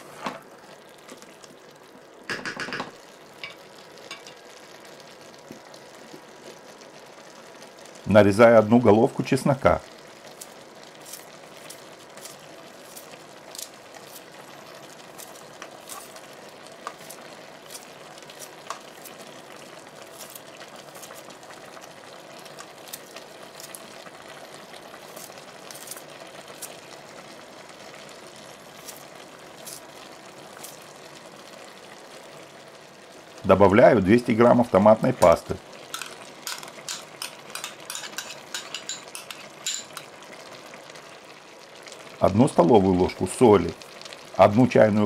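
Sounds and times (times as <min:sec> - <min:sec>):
vegetables simmering in oil: 0:00.0 - 0:45.0.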